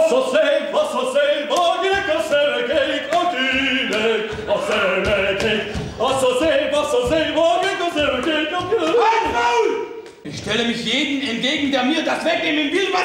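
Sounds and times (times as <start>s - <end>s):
man singing unaccompanied: 0.0s - 10.0s, 10.7s - 13.0s.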